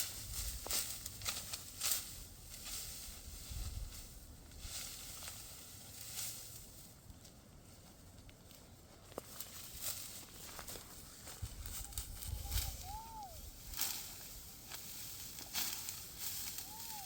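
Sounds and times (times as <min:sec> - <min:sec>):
dry wheat stalks rustling: 0:00.0 - 0:17.0.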